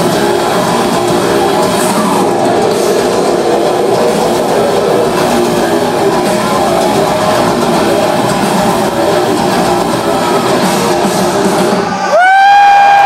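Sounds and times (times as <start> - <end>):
distorted electric guitars: 0.0 - 13.0
drums: 0.0 - 13.0.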